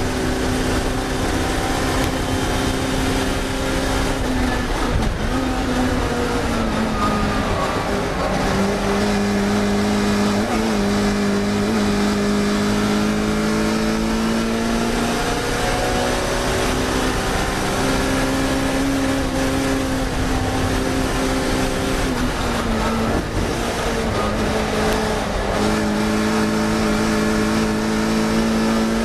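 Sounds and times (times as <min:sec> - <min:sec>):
racing car engine at high revs: 0:00.0 - 0:29.0.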